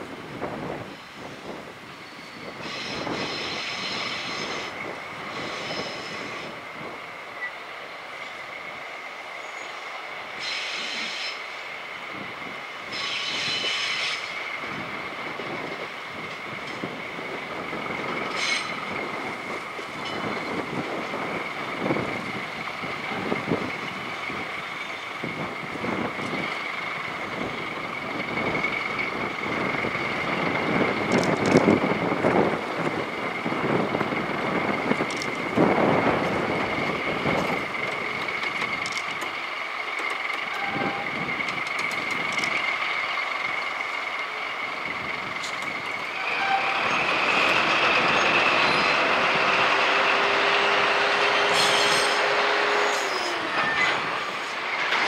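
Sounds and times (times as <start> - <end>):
locomotive engine rumble: 0.0 - 55.0
train high whine: 0.0 - 55.0
train knocks: 2.5 - 7.0, 10.3 - 55.0.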